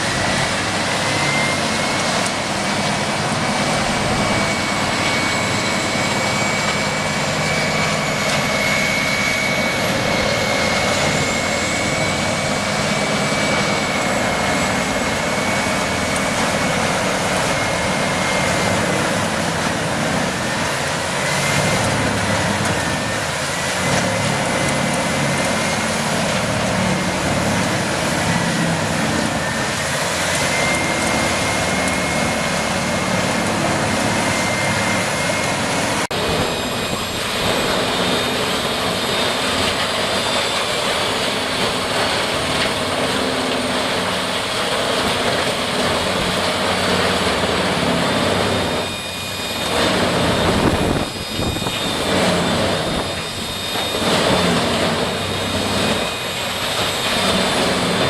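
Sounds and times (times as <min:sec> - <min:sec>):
machine high whine: 0:00.0 - 0:58.0
wood-processing machinery whining: 0:00.0 - 0:58.0.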